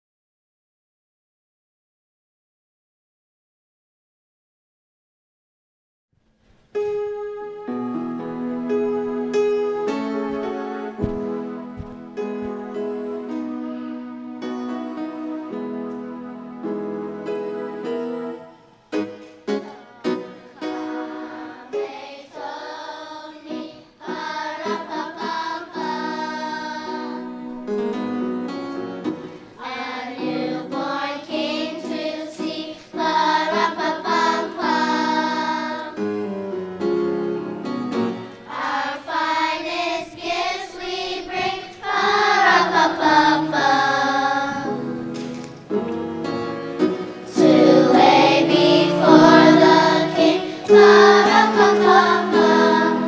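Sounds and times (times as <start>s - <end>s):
children's choir singing: 6.8s - 53.0s.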